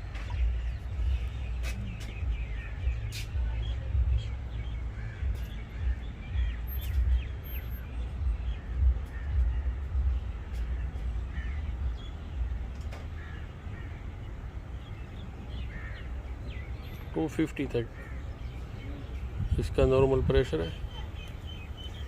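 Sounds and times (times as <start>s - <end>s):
bird calls: 0.0s - 22.0s.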